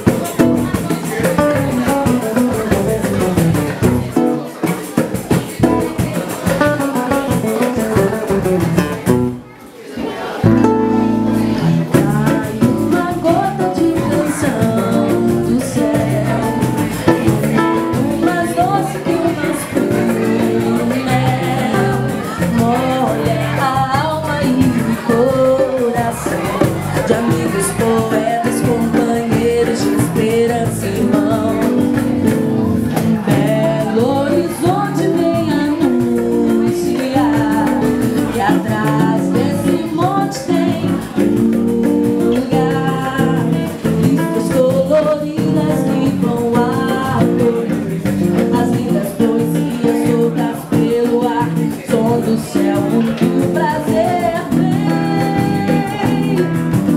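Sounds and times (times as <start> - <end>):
guitar band accompaniment: 0.0 - 56.9
person singing lead vocals: 10.4 - 56.9.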